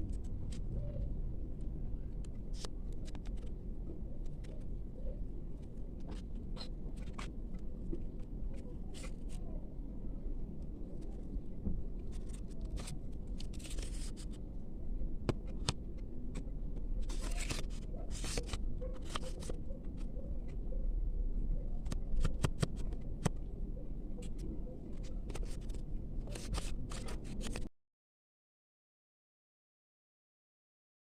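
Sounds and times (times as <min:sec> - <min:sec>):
low steady hum: 0:00.0 - 0:27.7.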